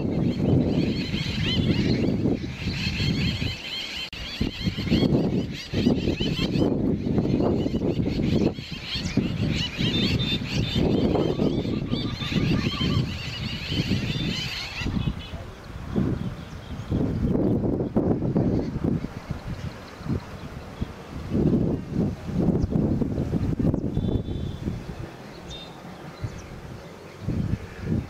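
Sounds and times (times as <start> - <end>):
birds chirping and calling: 0.0 - 21.8, 22.4 - 28.0.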